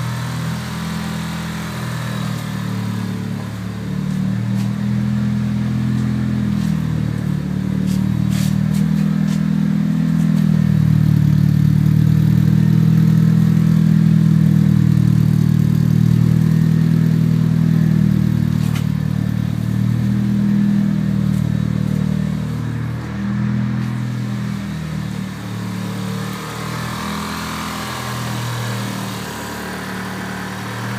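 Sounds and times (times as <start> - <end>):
car engine running: 0.0 - 30.9.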